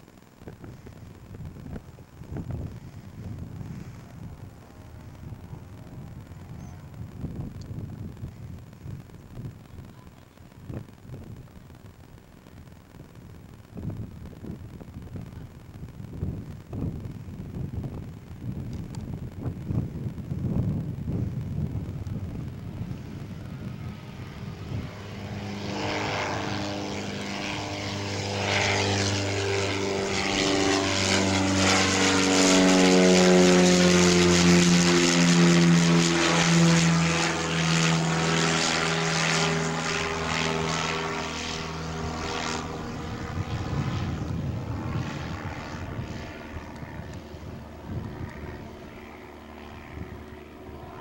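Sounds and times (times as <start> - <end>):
propeller plane passing overhead: 0.0 - 51.0.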